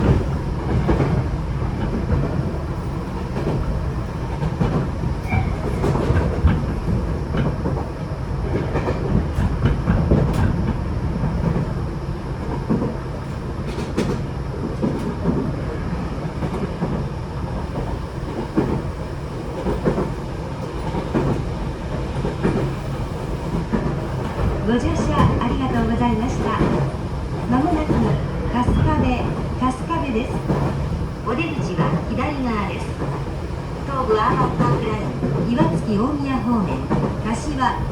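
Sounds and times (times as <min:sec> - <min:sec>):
rail joint clicks: 0:00.0 - 0:37.9
train wheels rumbling on rail: 0:00.0 - 0:37.9.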